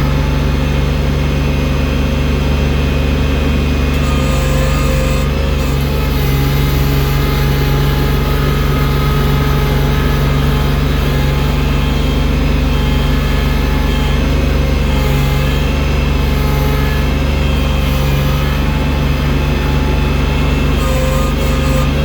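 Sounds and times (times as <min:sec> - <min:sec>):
snow-clearing machine engine running: 0:00.0 - 0:22.0.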